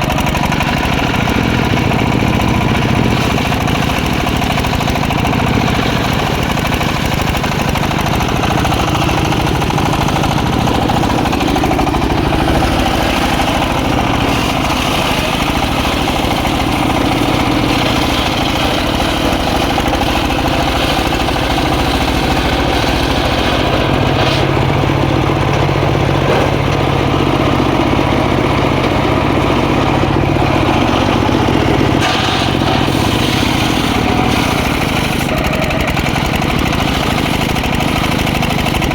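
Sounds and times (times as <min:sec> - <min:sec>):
circular saw cutting wood: 0:00.0 - 0:38.9.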